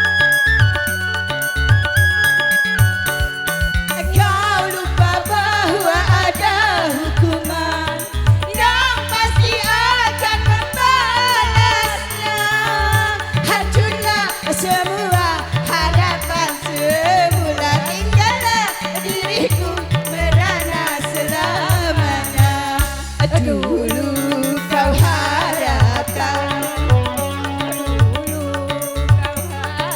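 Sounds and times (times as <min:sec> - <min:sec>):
wavering ornamented melody: 0:00.0 - 0:22.9, 0:23.5 - 0:29.9
hand drums beating: 0:00.0 - 0:29.9.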